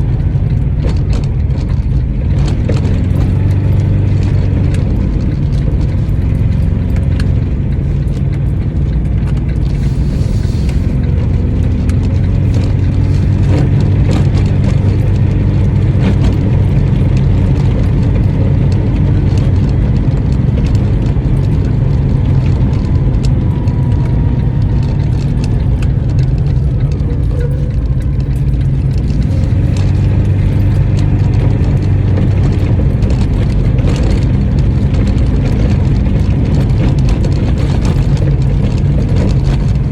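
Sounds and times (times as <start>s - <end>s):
light ticking and rattling: 0.0s - 39.9s
small engine droning: 0.0s - 39.9s.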